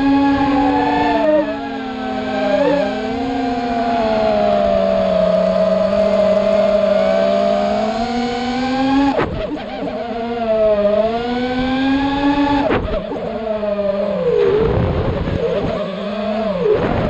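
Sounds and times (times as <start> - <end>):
model aircraft propellers whining: 0.0 - 17.0.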